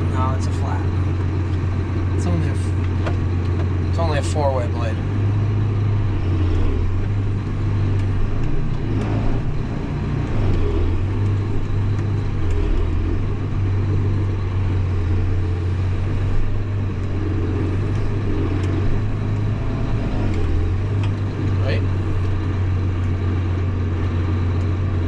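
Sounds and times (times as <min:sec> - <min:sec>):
tractor diesel engine humming: 0:00.0 - 0:25.0.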